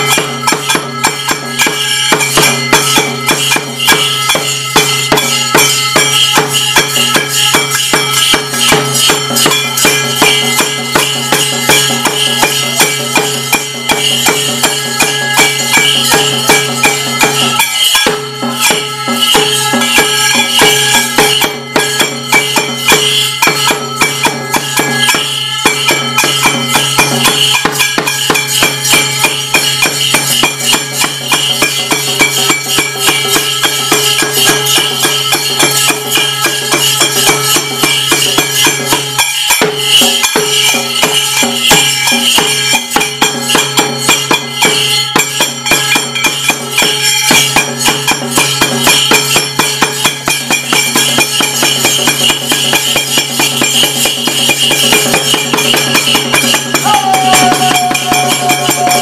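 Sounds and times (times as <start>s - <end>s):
fast drum strokes: 0.0s - 59.0s
metallic jingling and clashing: 0.0s - 59.0s
sustained ringing tones: 0.0s - 59.0s.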